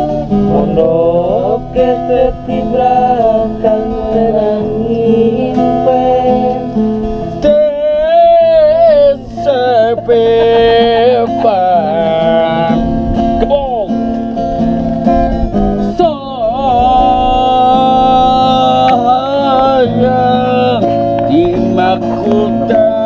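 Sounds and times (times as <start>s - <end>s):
man singing slow song: 0.0s - 6.8s, 7.4s - 13.5s, 15.8s - 23.0s
plucked string instrumental backing: 0.0s - 23.0s.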